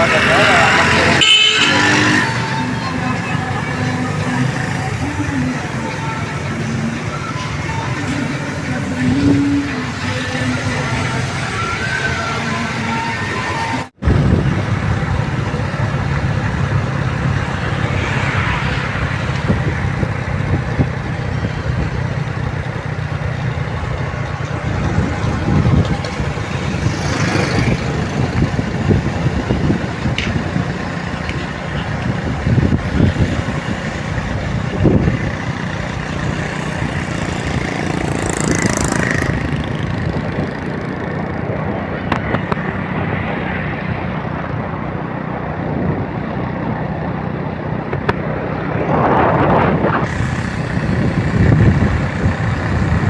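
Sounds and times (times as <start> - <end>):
vehicle engines passing: 0.0 - 53.0.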